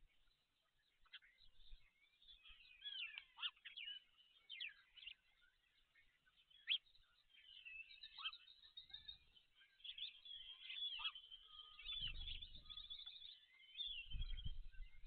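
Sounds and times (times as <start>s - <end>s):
birds chirping and whistling: 1.0s - 5.7s, 6.3s - 15.0s.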